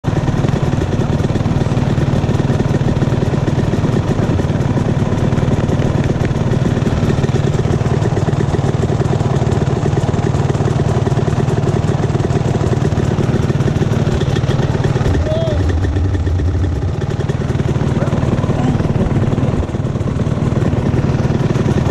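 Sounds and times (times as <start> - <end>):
dirt bike engines running: 0.0 - 21.9.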